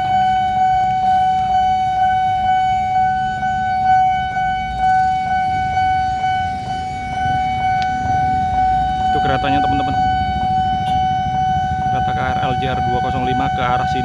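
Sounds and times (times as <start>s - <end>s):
level crossing alarm pulsing tone: 0.0s - 14.0s
road traffic rumble: 0.0s - 14.0s.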